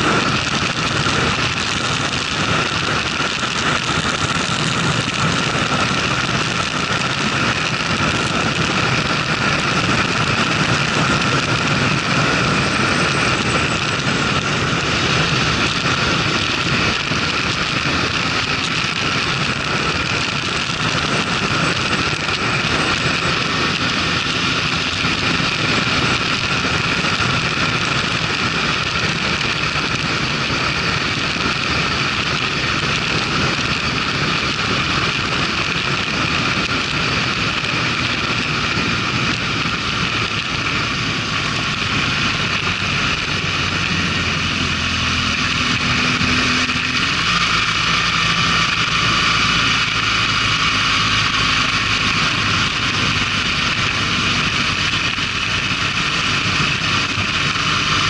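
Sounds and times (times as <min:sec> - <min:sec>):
motorcycle engine: 0:00.0 - 0:58.0
wind rushing on microphone: 0:00.0 - 0:58.0.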